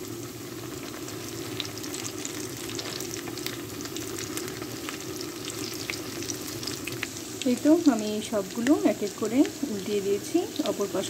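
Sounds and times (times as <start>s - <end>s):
oil sizzling with crackling pops: 0.0s - 11.0s.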